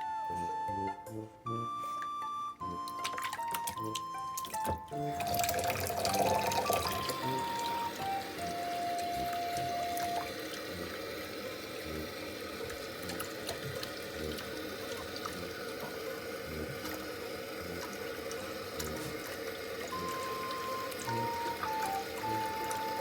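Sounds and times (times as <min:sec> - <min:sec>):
background music: 0:00.0 - 0:23.0
water running from a tap: 0:02.6 - 0:23.0.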